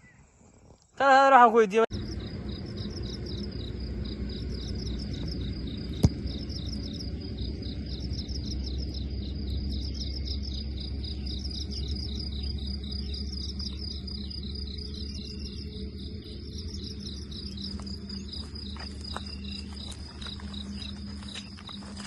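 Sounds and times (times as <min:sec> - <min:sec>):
cricket chirping: 0:00.0 - 0:22.0
low rumble: 0:01.9 - 0:22.0.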